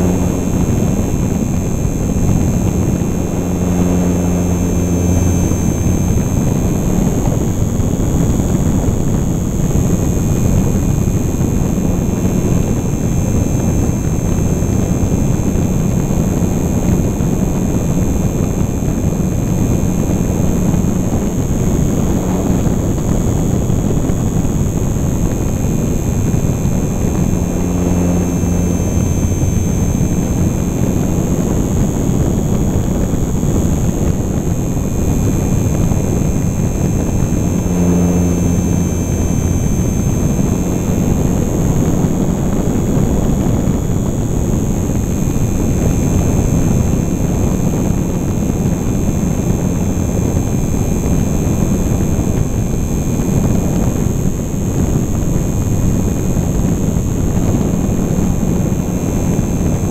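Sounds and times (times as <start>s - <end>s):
model plane electric motor and propeller: 0.0s - 59.9s
wind rush over microphone: 0.0s - 59.9s.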